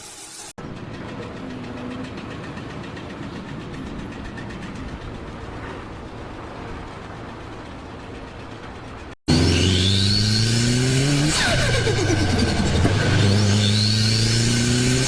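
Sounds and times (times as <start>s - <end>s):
engine running steadily: 0.6s - 15.0s.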